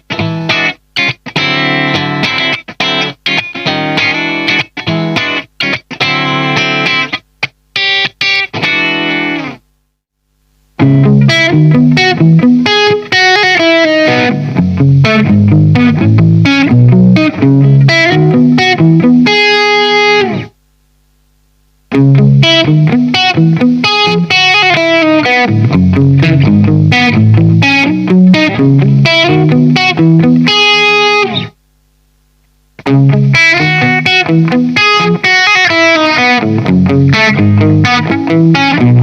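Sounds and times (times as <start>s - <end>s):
distorted electric guitar riffs: 0.0s - 39.0s.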